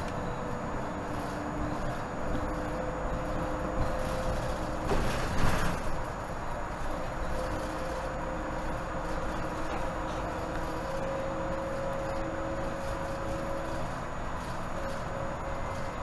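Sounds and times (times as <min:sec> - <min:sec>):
bus drive rumble: 0:00.0 - 0:16.0
constant whine: 0:00.0 - 0:16.0.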